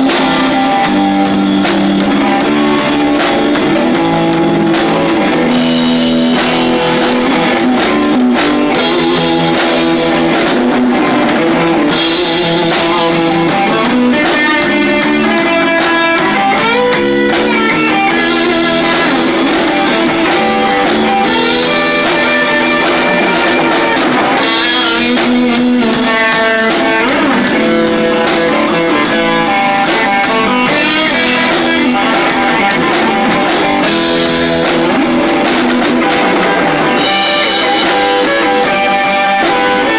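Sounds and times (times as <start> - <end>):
bass guitar: 0.0 - 39.9
drum kit: 0.0 - 39.9
electric guitar: 0.0 - 39.9
steady cymbal beat: 0.0 - 39.9.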